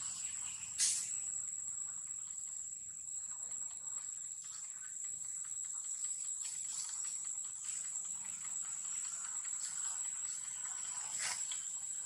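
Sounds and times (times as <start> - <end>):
insects droning: 0.0 - 12.0
faint ticks: 1.9 - 12.0.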